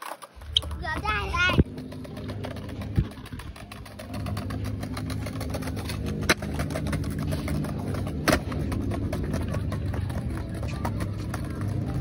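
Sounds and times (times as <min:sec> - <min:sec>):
skateboard clack: 0:00.0 - 0:12.0
skateboard wheels rolling on tiles: 0:00.0 - 0:12.0.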